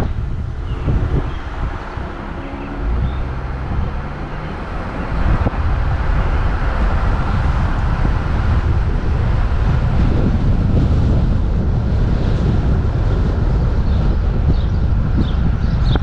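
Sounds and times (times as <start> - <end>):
car engine running: 0.0 - 13.5
road noise: 0.0 - 16.0
wind buffeting microphone: 0.0 - 16.0.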